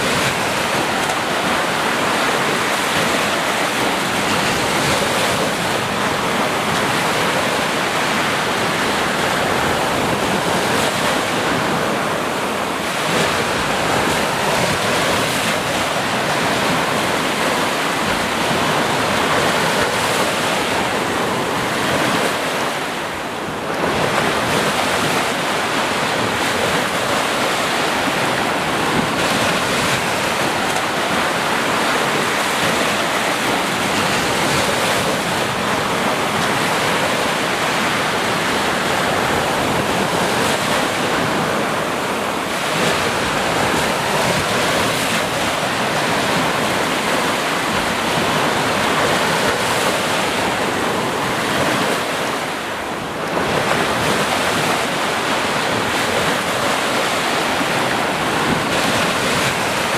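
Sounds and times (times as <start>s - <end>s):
waves breaking and washing in: 0.0s - 59.9s.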